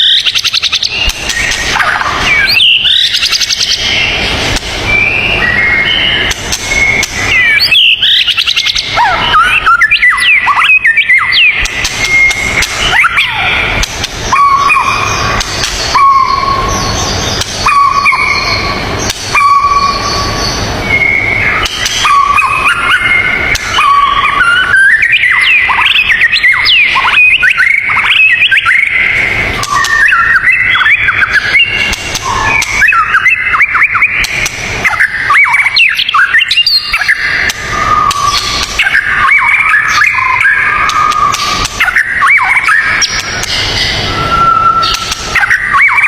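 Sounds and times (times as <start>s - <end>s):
songbird singing whistled notes: 0.0s - 46.0s.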